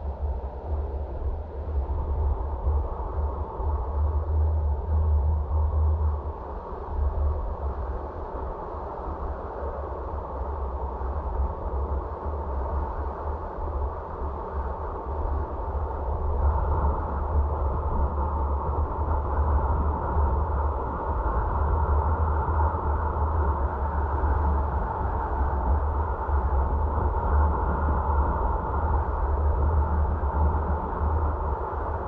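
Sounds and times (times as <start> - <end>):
wind and tyre hiss: 0.0 - 32.0.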